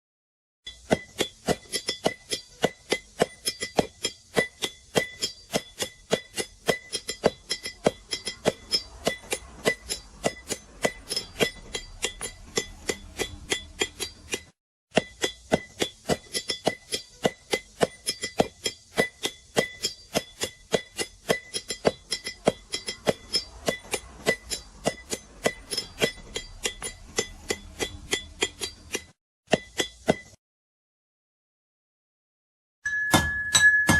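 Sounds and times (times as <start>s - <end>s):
hammer striking iron on anvil: 0.7s - 30.4s, 32.9s - 33.9s.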